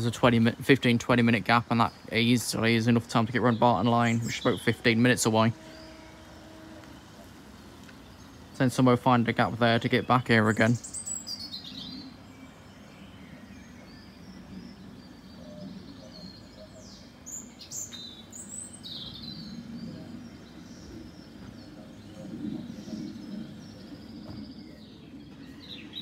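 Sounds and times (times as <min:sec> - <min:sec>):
low background hum: 0:00.0 - 0:26.0
small birds chirping: 0:00.0 - 0:26.0.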